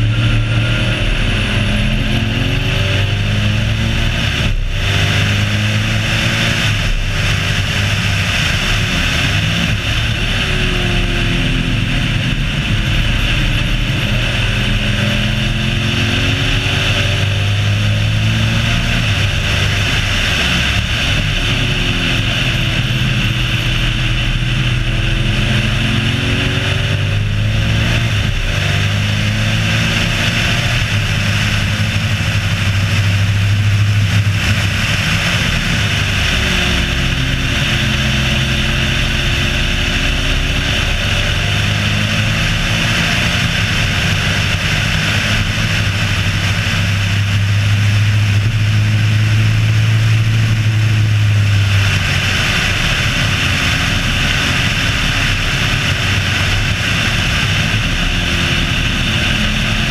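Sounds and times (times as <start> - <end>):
race car engine: 0.0 - 59.9
wind and road noise: 0.0 - 59.9.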